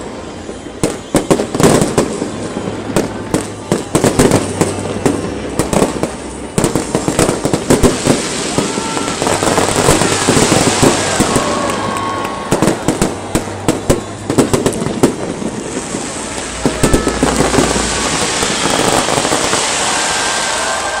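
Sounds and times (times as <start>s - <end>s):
continuous hiss: 0.0s - 21.0s
fireworks bangs and crackling: 0.0s - 21.0s.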